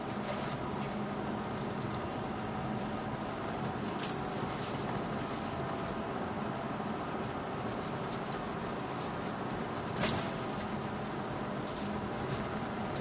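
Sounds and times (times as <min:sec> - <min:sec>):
car cabin engine rumble: 0:00.0 - 0:13.0.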